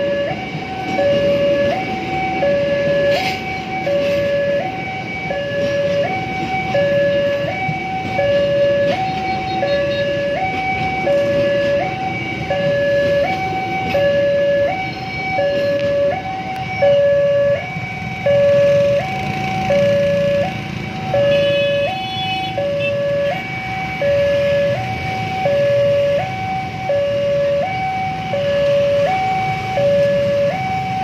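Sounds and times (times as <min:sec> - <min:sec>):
level crossing two-tone alarm: 0:00.0 - 0:31.0
train cars rumbling past: 0:00.0 - 0:31.0.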